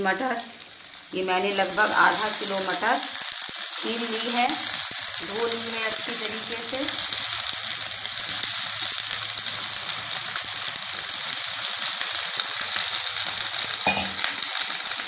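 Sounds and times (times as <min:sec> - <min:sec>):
peas sizzling in hot oil: 0:00.0 - 0:15.0.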